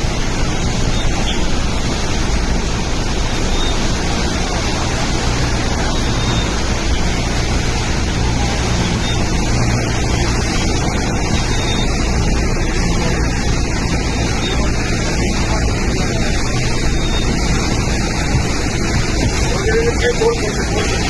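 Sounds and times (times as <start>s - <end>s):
loud rushing noise: 0.0s - 21.0s.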